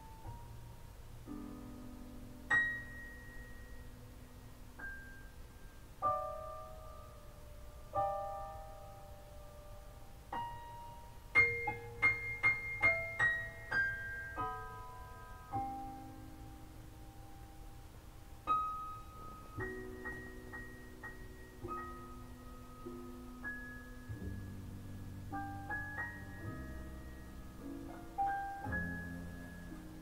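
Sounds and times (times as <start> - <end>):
jazz piano over speakers: 0.0 - 30.0.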